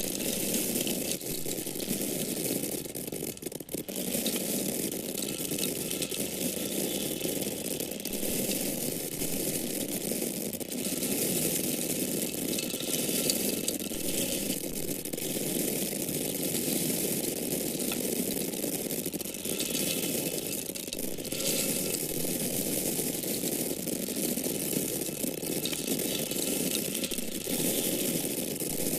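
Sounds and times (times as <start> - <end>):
dry corn kernels rattling: 0.0 - 28.9.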